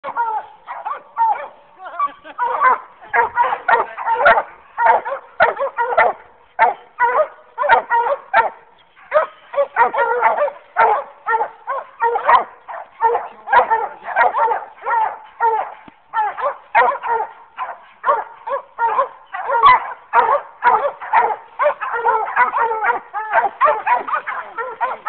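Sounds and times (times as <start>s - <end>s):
hounds barking and bawling: 0.0s - 25.0s.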